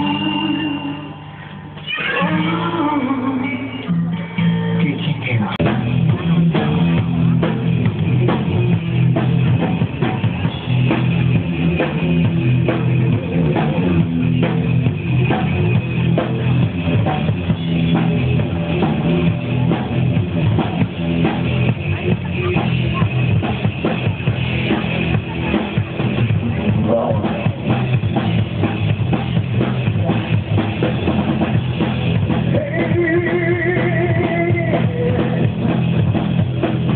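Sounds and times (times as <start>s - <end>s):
live rock band playing: 0.0s - 36.9s
drum kit beat: 4.0s - 36.9s.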